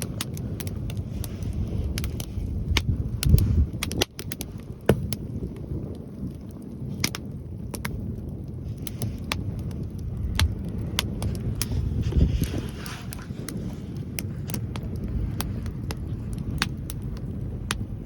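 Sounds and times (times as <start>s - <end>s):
campfire crackling and popping: 0.0s - 18.0s
wind buffeting microphone: 0.0s - 18.0s.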